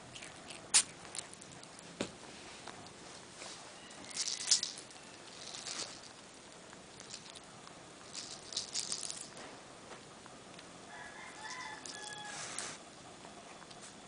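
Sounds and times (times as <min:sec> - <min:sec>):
kitten crunching food: 0:00.0 - 0:09.5, 0:10.2 - 0:12.7.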